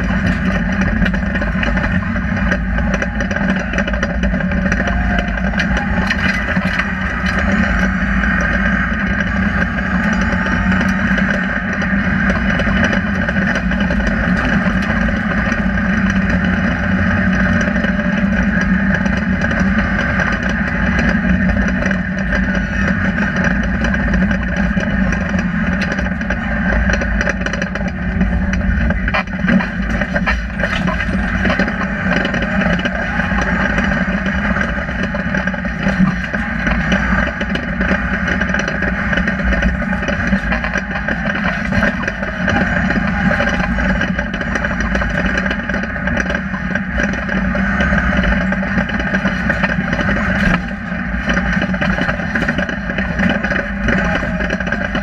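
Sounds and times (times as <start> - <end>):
rally car engine running hard: 0.0 - 55.0
road noise: 0.0 - 55.0
small clicks and rattles: 0.0 - 55.0.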